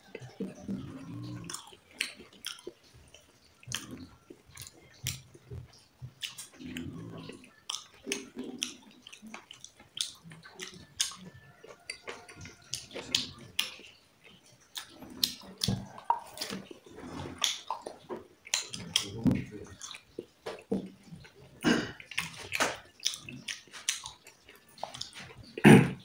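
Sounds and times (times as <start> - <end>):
wet chewing and smacking: 0.0 - 26.0.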